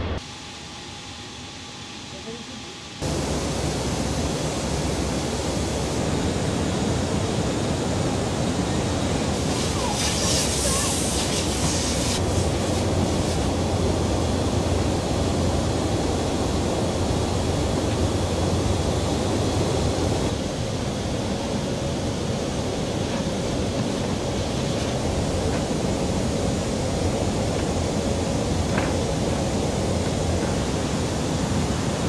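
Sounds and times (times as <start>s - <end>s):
aircraft engines roaring: 0.0s - 32.0s
low hum: 0.0s - 32.0s.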